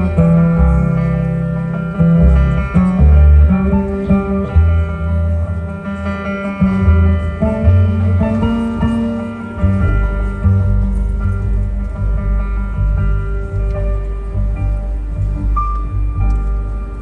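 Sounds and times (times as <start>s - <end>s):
held chords: 0.0s - 17.0s
plucked bass line: 0.0s - 17.0s.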